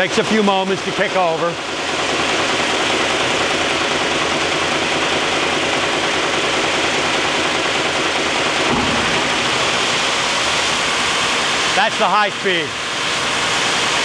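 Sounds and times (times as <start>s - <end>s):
low motor rumble: 0.0s - 14.0s
wide-belt grinder running: 0.0s - 14.0s.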